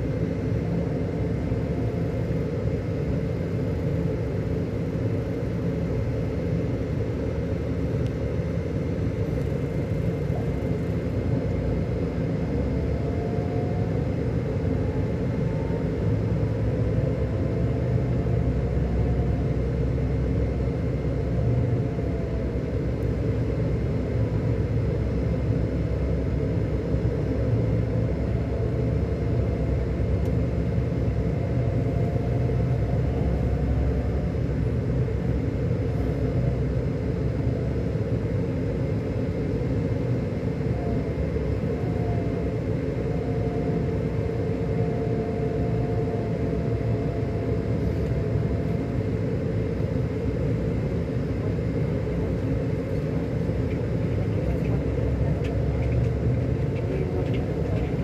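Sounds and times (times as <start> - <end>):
diesel coach engine running: 0.0 - 58.0.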